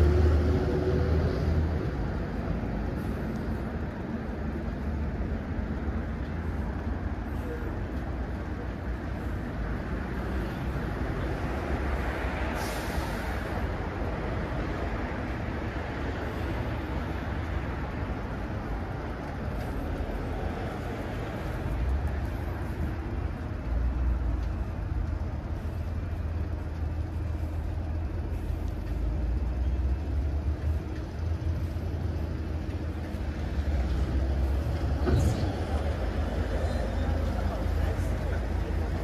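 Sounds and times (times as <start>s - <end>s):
cars and buses passing: 0.0s - 39.0s
low traffic rumble: 0.0s - 39.0s.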